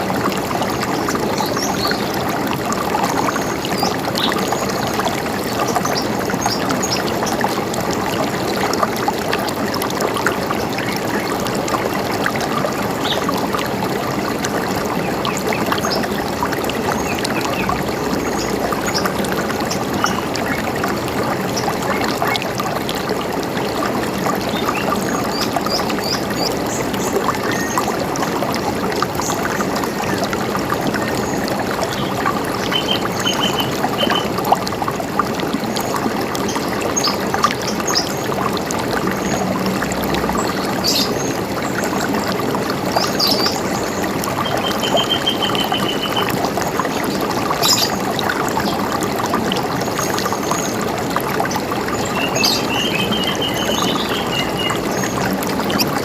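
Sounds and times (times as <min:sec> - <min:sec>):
river running: 0:00.0 - 0:56.0.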